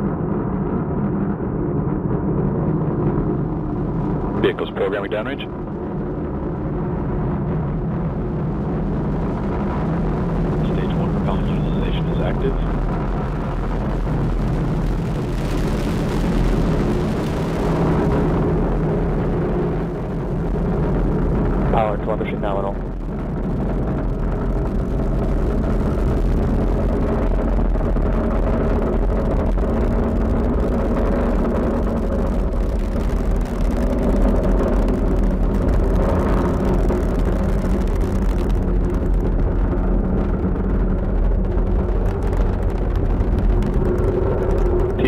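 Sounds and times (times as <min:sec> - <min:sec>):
rocket engine rumble: 0:00.0 - 0:45.0.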